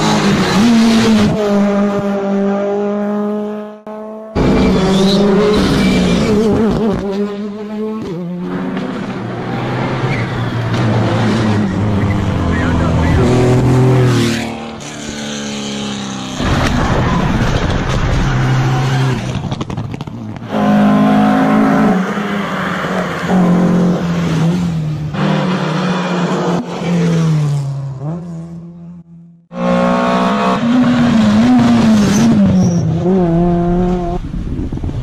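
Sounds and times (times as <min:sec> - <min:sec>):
rally car engines revving: 0:00.0 - 0:34.4.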